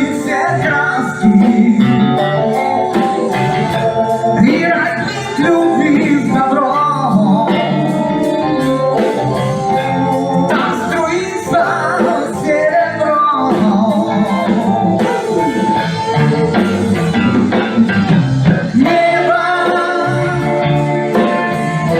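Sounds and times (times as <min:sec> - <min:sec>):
person singing: 0:00.0 - 0:16.8, 0:17.4 - 0:21.9
band playing a song: 0:00.0 - 0:21.9
guitar: 0:00.0 - 0:21.9.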